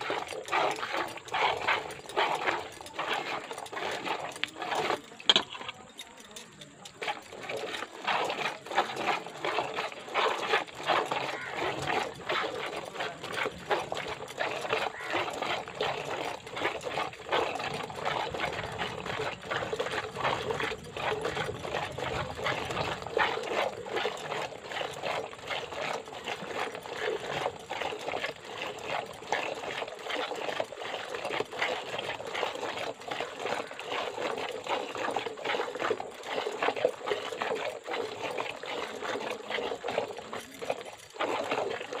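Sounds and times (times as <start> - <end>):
milk squirting into bucket: 0.0 - 42.0.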